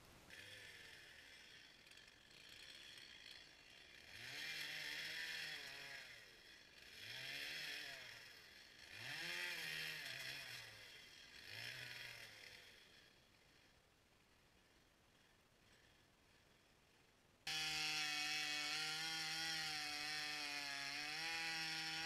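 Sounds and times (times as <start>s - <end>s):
distant chainsaw revving: 0.3s - 13.8s, 17.5s - 22.0s.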